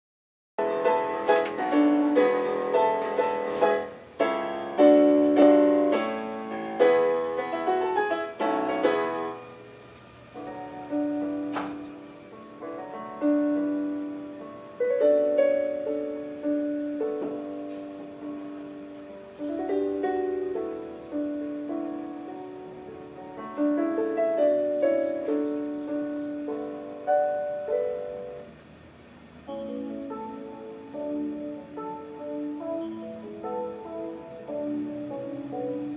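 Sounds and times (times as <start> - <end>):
electronic keyboard piano piece: 0.6 - 35.9.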